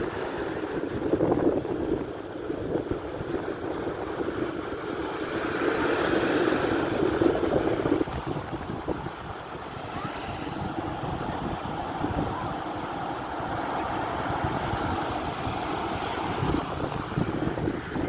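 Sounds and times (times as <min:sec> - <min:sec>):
surf: 0:00.0 - 0:18.0
wave washing in: 0:00.0 - 0:18.0
wind buffeting microphone: 0:00.0 - 0:18.0.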